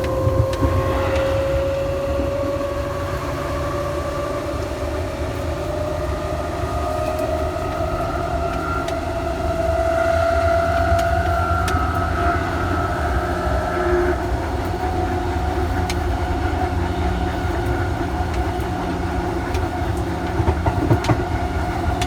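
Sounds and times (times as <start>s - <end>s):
train motors whining: 0.0s - 22.0s.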